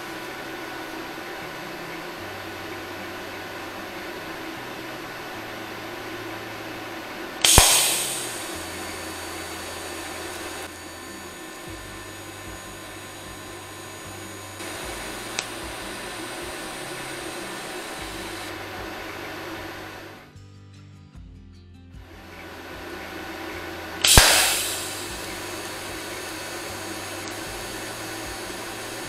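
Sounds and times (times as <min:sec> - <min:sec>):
welding arc crackling and hissing: 0:00.0 - 0:20.2, 0:22.1 - 0:29.0.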